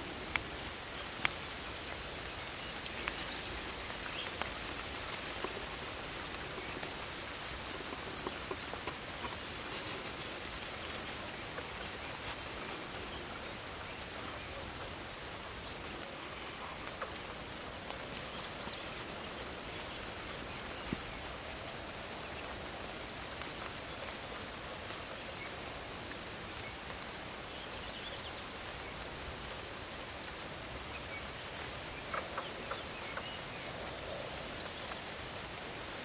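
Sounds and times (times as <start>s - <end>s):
rain falling in forest: 0.0s - 36.0s.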